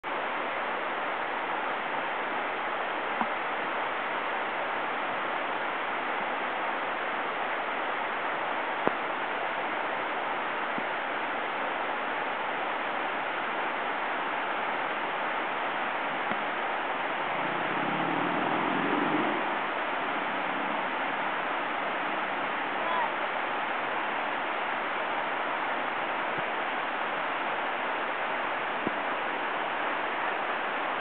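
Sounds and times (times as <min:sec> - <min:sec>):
waterfall rushing: 0:00.1 - 0:31.0.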